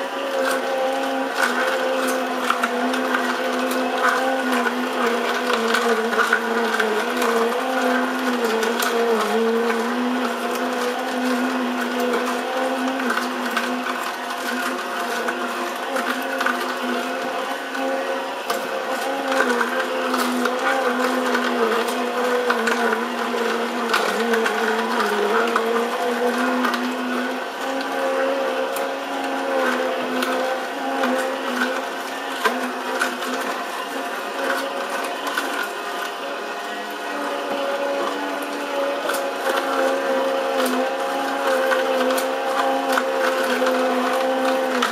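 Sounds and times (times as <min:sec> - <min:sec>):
carrot crackling in juicer: 0:00.0 - 0:44.9
juicer motor humming: 0:00.0 - 0:44.9.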